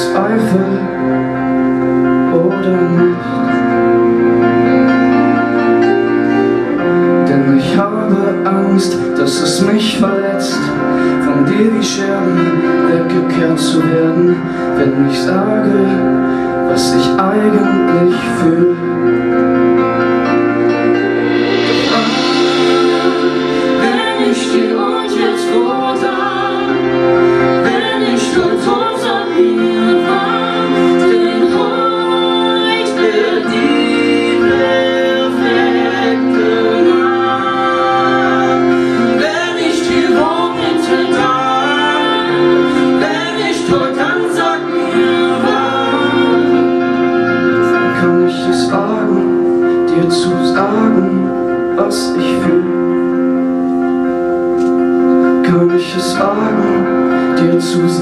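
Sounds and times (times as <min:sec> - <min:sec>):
person singing: 0:00.0 - 0:53.6, 0:55.0 - 0:58.0
live band playing: 0:00.0 - 0:58.0.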